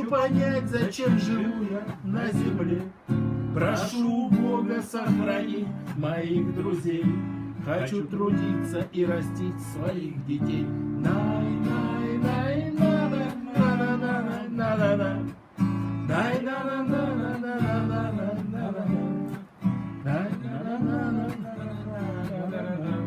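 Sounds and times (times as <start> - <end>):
acoustic guitar strummed: 0.0 - 23.0.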